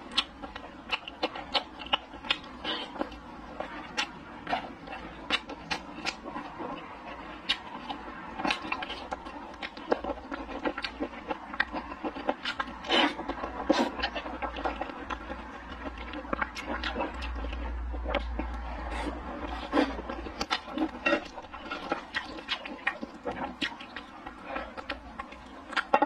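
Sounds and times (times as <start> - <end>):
wet chewing and lip smacking: 0.0 - 26.0.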